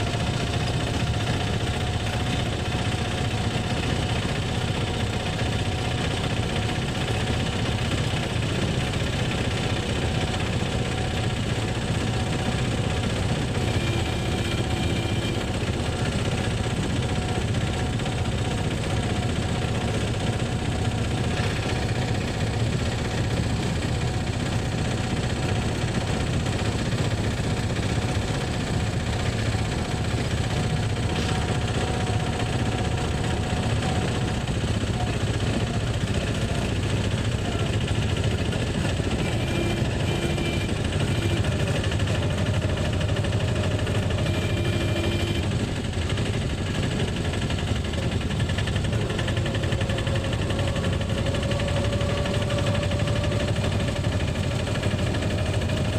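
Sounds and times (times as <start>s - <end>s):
auto-rickshaw engine droning: 0.0s - 55.9s.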